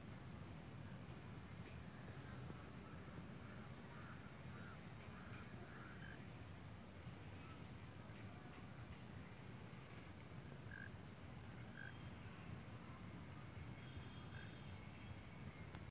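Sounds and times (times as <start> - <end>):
distant bird chirps: 2.1 - 15.9.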